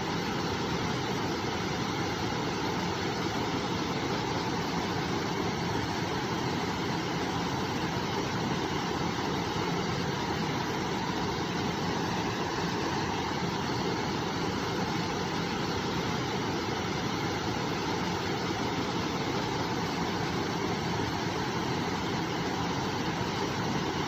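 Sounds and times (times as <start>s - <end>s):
river water rushing: 2.5s - 24.0s.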